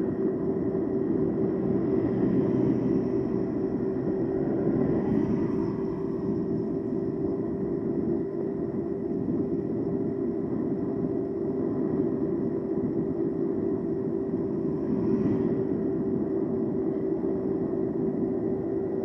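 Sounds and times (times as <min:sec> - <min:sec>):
e-bike motor whining hum: 0:00.0 - 0:19.0
wind noise on microphone: 0:00.0 - 0:19.0.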